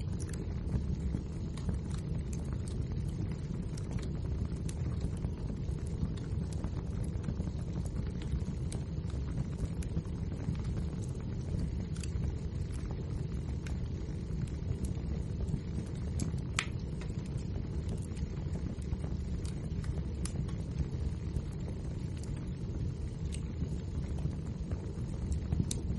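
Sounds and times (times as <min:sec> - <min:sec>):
fire crackles and pops: 0:00.0 - 0:25.9
wood fire burning: 0:00.0 - 0:25.9.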